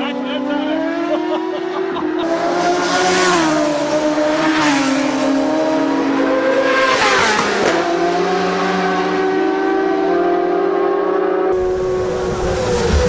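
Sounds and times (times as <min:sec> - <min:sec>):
racing motorcycle passing at high revs: 0:00.0 - 0:13.0.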